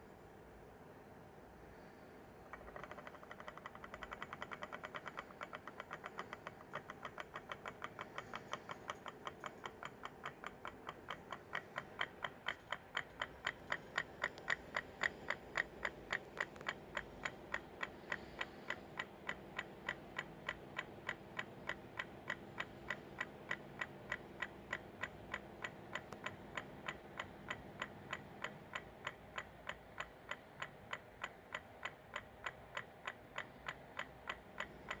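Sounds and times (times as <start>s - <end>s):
pulse motor sharp ticks: 2.5s - 35.0s.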